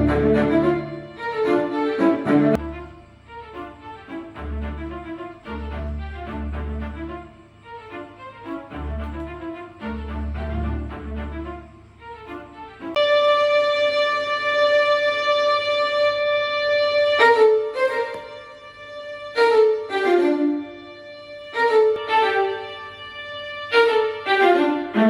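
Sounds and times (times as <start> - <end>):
violin music through speaker: 0.0 - 25.0.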